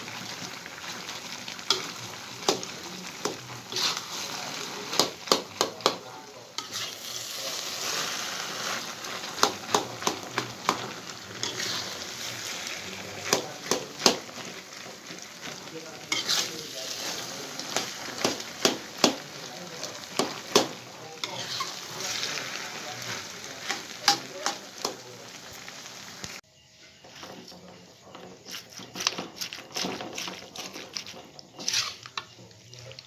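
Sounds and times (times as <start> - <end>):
egg sizzling in a pan: 0.0 - 33.0.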